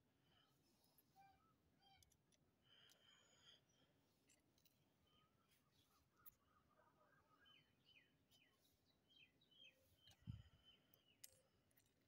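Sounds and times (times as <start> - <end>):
faint bird chirps: 0.2 - 4.0, 4.7 - 11.8.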